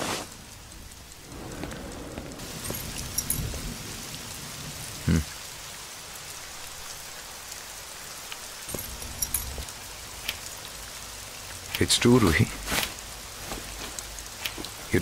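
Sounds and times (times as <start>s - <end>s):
steady rain falling: 0.0s - 15.0s
sharp drip-like ticks: 0.3s - 15.0s.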